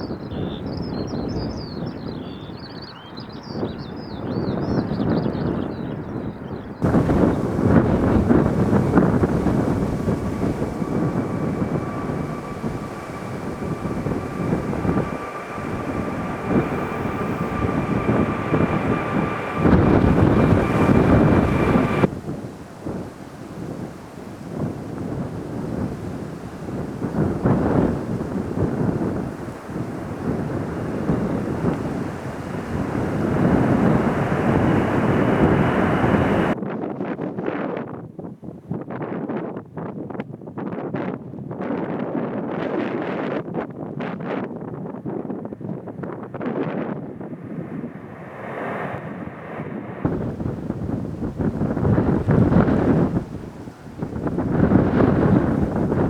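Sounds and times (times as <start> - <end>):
wind buffeting microphone: 0.0 - 36.6, 44.9 - 56.0
jet engines whine and rumble: 0.1 - 36.6, 45.5 - 56.0.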